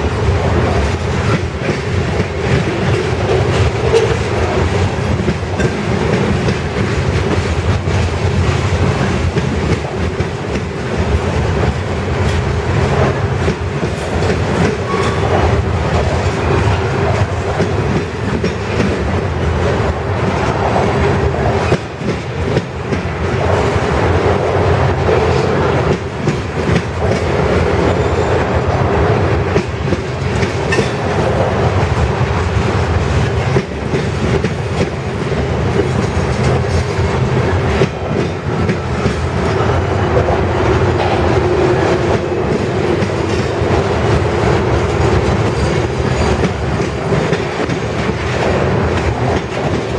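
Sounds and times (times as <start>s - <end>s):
rumble of train running gear: 0.0s - 49.9s
train wheels clacking on rails: 0.0s - 49.9s.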